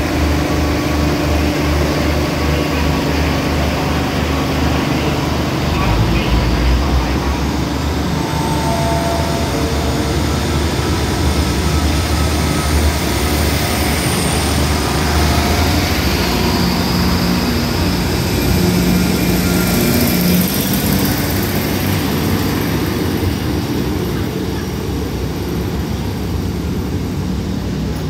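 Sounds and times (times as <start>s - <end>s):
diesel engines droning: 0.0s - 28.0s.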